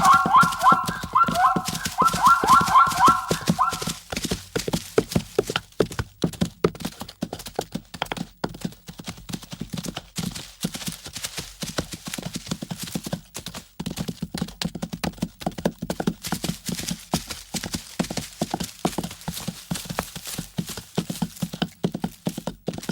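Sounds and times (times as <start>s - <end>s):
clatter of hoofbeats: 0.0s - 22.9s.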